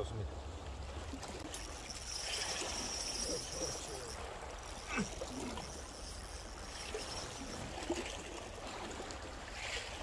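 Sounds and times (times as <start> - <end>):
water lapping on rocks: 0.8 - 10.0.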